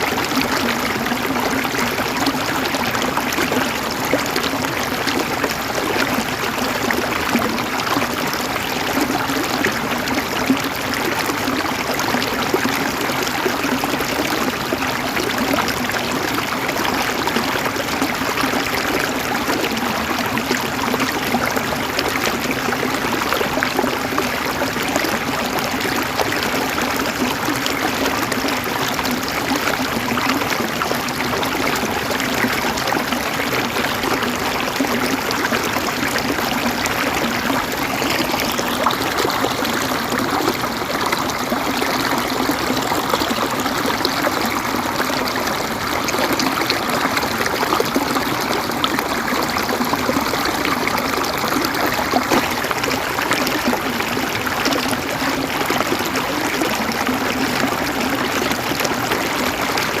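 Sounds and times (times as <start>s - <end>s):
river water flowing over stones: 0.0s - 60.0s.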